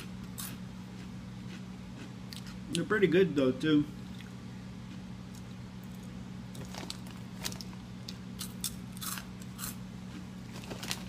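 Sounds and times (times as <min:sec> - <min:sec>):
crisp chewing crunches: 0:00.0 - 0:02.8, 0:04.0 - 0:11.0
steady low hum: 0:00.0 - 0:11.0.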